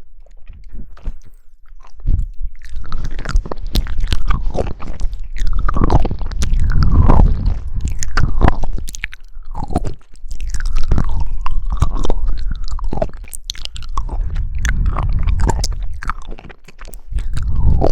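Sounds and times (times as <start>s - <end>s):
wet chewing and squelching: 0.0s - 17.9s.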